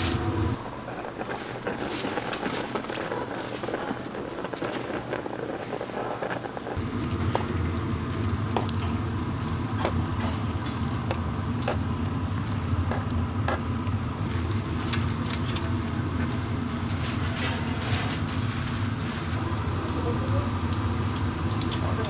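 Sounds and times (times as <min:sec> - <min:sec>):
light crackle: 0:00.0 - 0:22.0.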